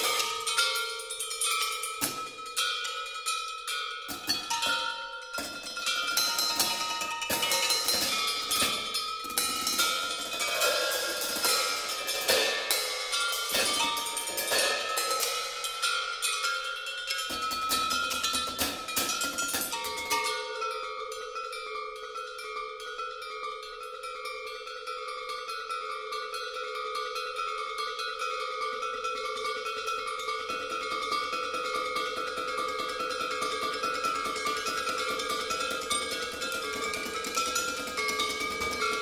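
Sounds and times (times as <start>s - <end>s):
metallic percussion strikes: 0.0s - 39.0s.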